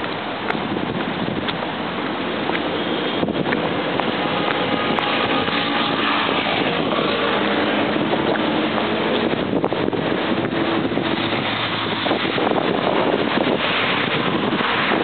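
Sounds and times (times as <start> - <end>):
cars passing close by: 0.0 - 15.0
traffic on a busy expressway: 0.0 - 15.0.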